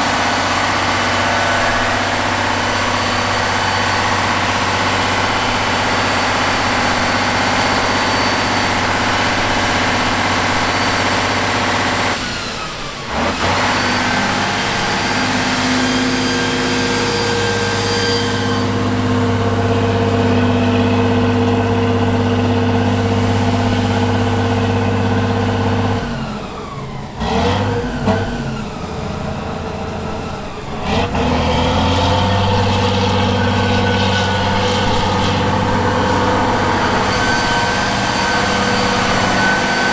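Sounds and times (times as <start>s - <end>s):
truck engine under load: 0.0s - 39.9s.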